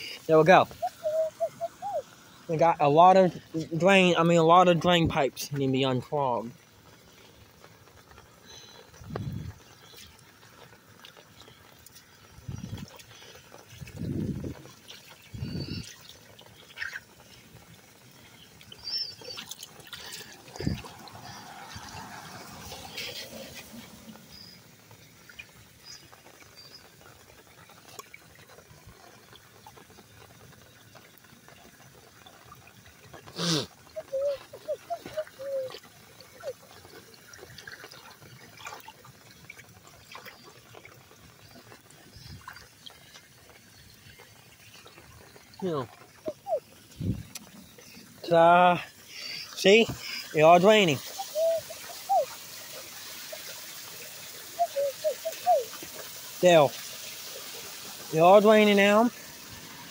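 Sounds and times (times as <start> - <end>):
water trickling into drain: 0.0 - 59.9.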